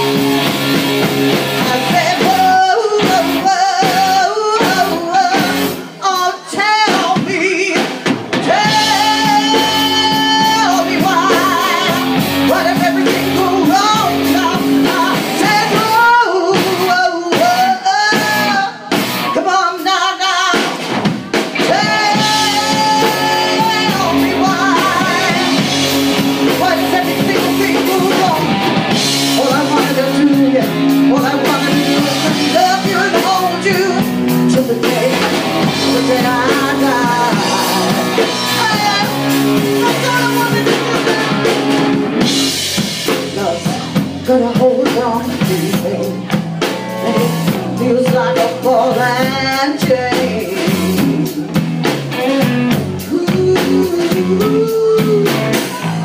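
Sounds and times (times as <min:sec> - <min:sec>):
rock band playing: 0:00.0 - 0:56.0
woman singing with vibrato: 0:01.6 - 0:20.8, 0:21.4 - 0:42.3, 0:43.1 - 0:46.3, 0:47.0 - 0:51.6, 0:53.0 - 0:55.9.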